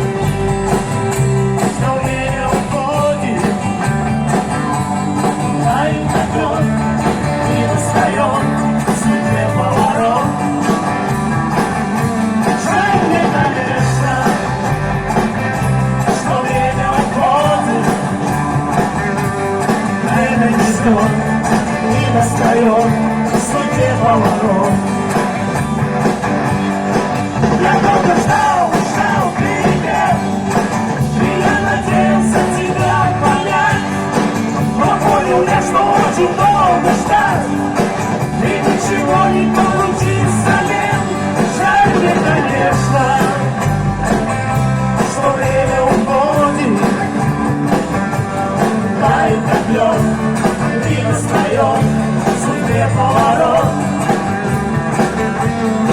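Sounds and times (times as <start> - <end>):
band playing live music: 0.0 - 55.9.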